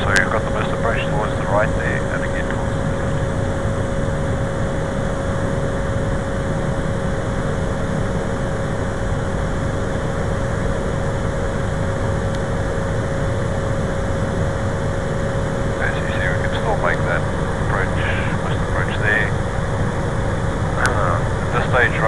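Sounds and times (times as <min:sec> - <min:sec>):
engine whine: 0:00.0 - 0:22.0
turboprop engine drone: 0:00.0 - 0:22.0.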